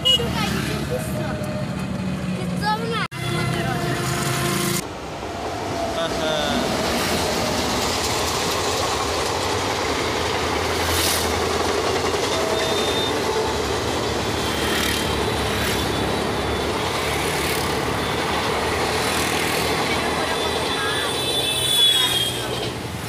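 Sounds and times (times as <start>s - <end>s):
passenger train passing: 0.0s - 23.0s.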